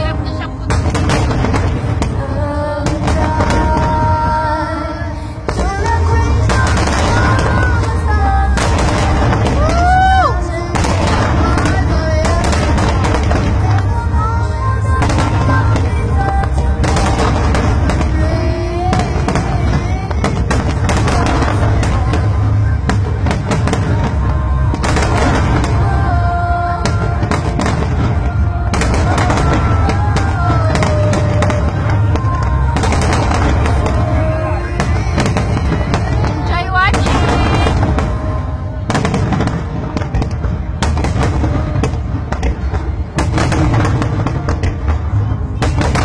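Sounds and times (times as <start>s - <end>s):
fireworks bursting and crackling: 0.0s - 46.0s.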